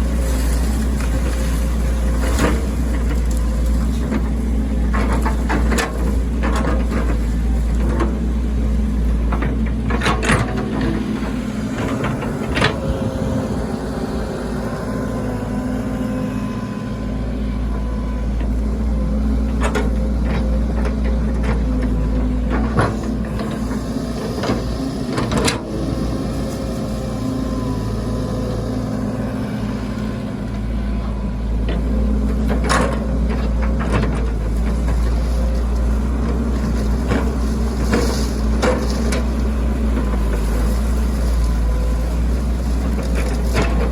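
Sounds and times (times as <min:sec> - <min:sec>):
excavator engine drone: 0:00.0 - 0:43.9.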